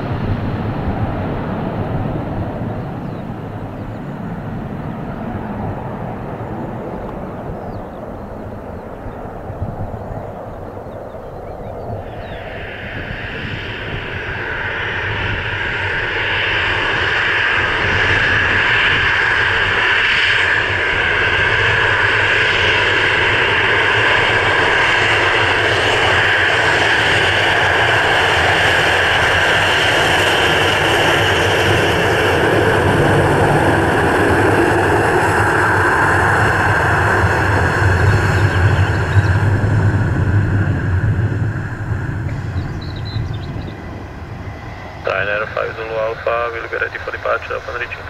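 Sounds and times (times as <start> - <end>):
jet engine whine and rumble: 0.0 - 48.0.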